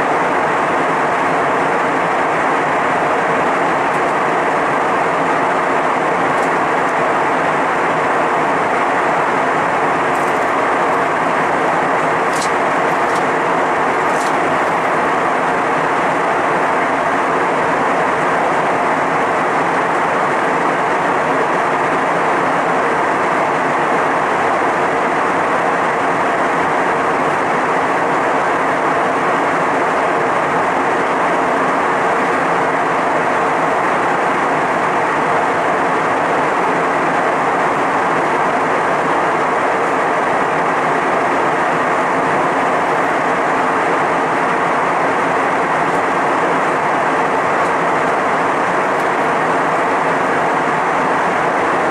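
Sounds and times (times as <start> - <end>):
jet airliner cabin noise: 0.0 - 51.9.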